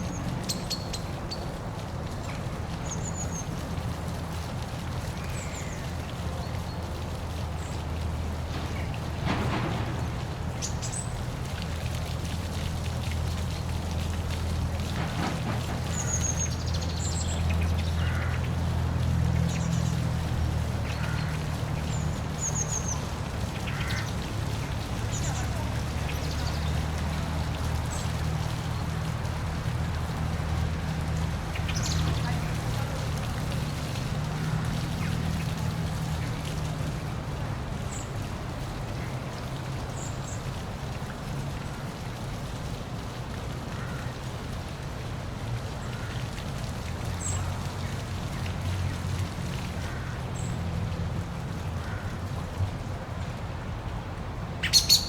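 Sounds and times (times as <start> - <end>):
waterfall splashing: 0.0 - 55.0.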